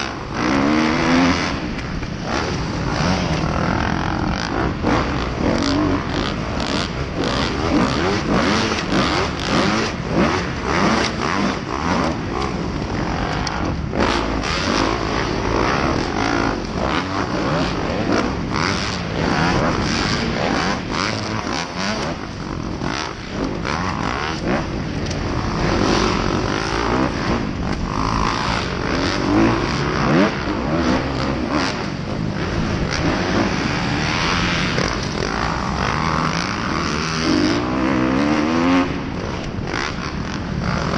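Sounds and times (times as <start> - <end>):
motorcycle engine revving: 0.0 - 40.9
other motocross bikes: 0.0 - 40.9.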